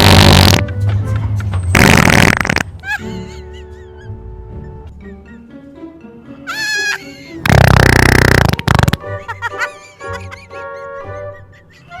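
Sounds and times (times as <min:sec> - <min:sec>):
background music with held notes: 0:00.0 - 0:01.8, 0:02.7 - 0:12.0.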